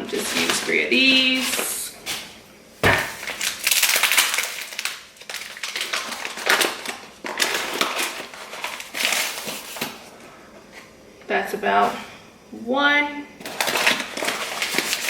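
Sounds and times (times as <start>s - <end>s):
sugar crunching and rustling: 0.0s - 10.8s, 13.4s - 15.0s.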